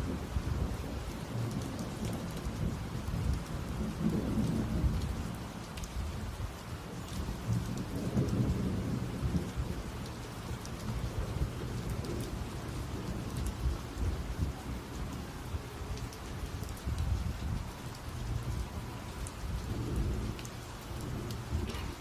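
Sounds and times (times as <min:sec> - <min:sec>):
heavy rain pattering: 0:00.0 - 0:22.0
low rolling thunder: 0:00.0 - 0:22.0.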